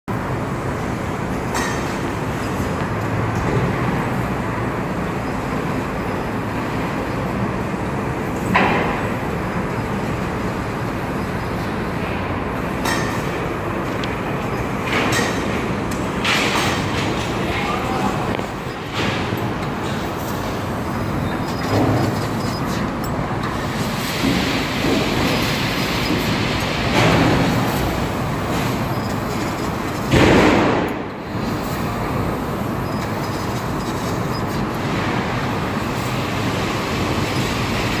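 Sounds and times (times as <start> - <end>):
machine rumble and hiss: 0.1 - 38.0.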